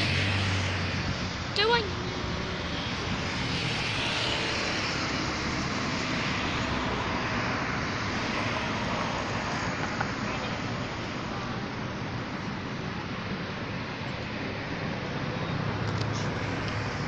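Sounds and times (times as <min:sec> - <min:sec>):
rushing noise: 0:00.0 - 0:17.0
steady engine drone: 0:00.0 - 0:17.0.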